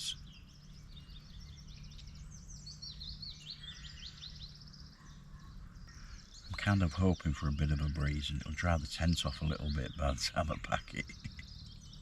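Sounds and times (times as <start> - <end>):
low background rumble: 0.0 - 12.0
songbirds singing: 0.0 - 12.0.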